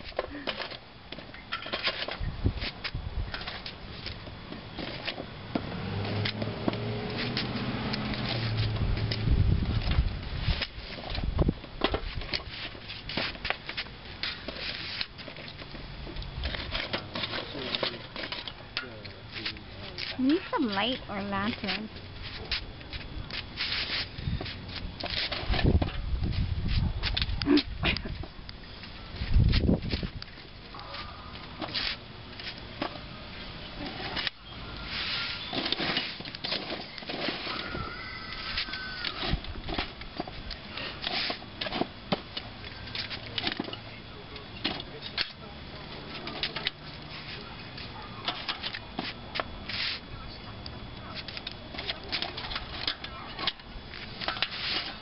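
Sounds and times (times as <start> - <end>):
charcoal crackling and popping: 0.0 - 20.9, 26.6 - 55.0
coals stirred with a rod: 7.1 - 50.4, 51.0 - 55.0.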